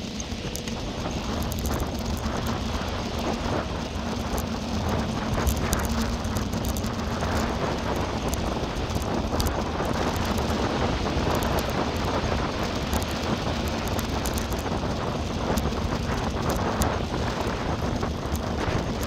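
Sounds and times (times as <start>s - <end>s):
bike clicks and rattles: 0.0s - 19.0s
low rumble from riding: 0.0s - 19.0s
wind buffeting microphone: 0.0s - 19.0s.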